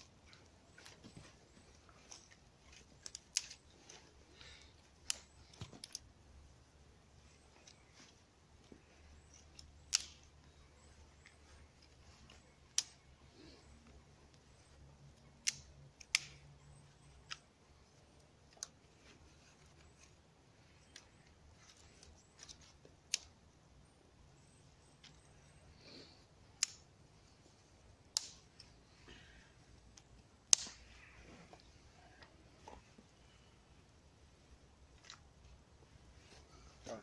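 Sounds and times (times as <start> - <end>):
tinder crackling and popping: 0.0 - 23.6, 24.3 - 37.0
faint steady background noise: 0.0 - 37.0.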